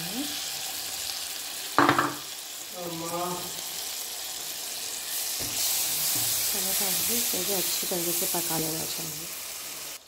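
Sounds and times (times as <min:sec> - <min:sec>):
hot oil sizzling: 0:00.0 - 0:10.0.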